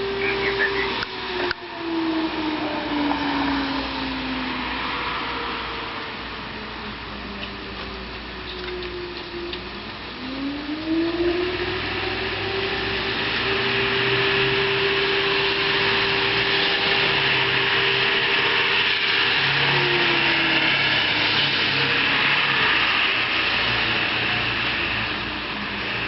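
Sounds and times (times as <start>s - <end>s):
fire siren wailing: 0.0s - 26.0s.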